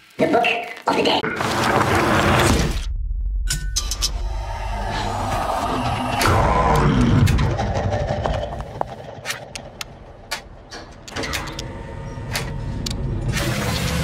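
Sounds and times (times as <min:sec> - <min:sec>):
low rumble: 0:02.2 - 0:13.4.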